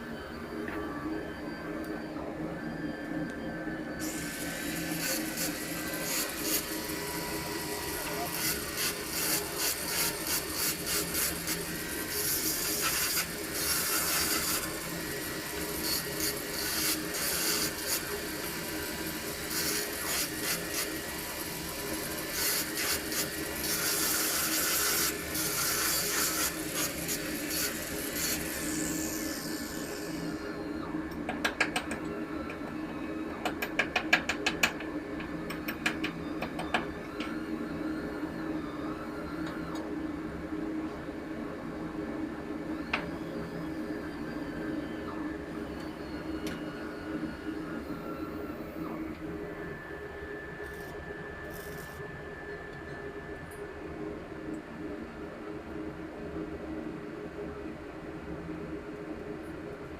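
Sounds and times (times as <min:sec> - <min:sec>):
machinery hum: 0:00.0 - 0:59.9.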